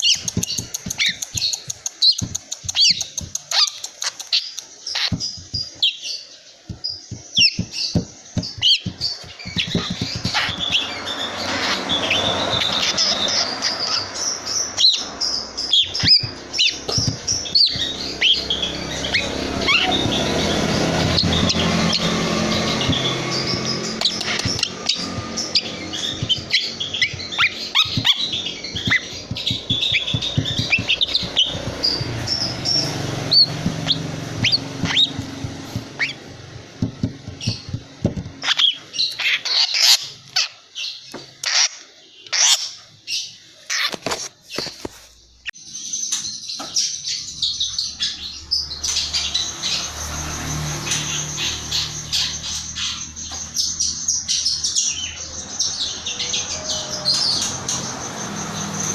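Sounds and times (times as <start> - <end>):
bird singing high chirps: 0.0 - 43.5, 45.4 - 58.9
sharp bird calls: 0.0 - 44.8, 45.5 - 58.9.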